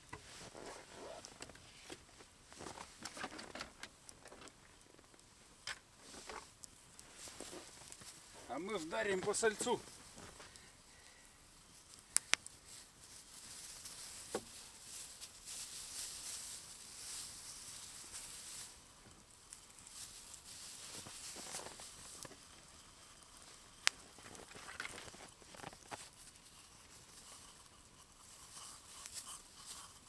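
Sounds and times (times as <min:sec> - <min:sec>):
wrapping rustling and crinkling: 0:00.0 - 0:30.0.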